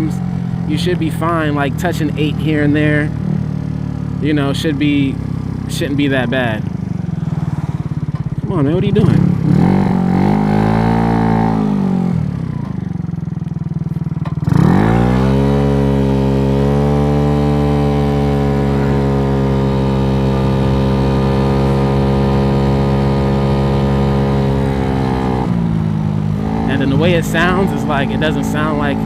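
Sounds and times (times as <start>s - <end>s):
scooter engine revving: 0.0s - 29.0s.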